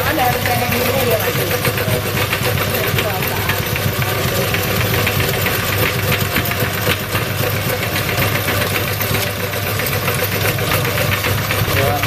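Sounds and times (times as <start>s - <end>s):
fast rattle of clicks: 0.0s - 12.0s
meat grinder motor hum: 0.0s - 12.0s.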